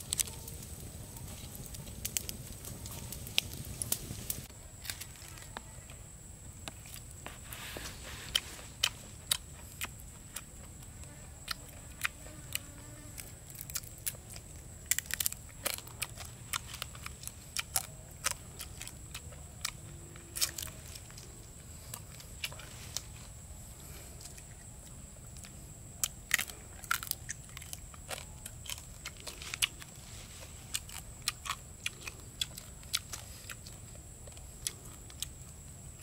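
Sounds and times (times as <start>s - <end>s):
crunching and chewing crispy meat: 0.0s - 6.0s, 6.6s - 36.0s.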